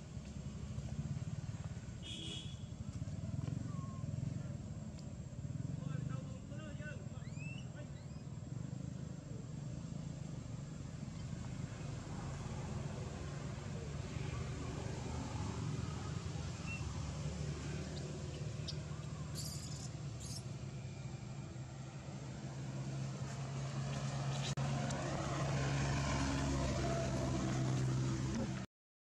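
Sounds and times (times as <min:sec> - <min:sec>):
vehicle engine humming: 0:00.0 - 0:28.7.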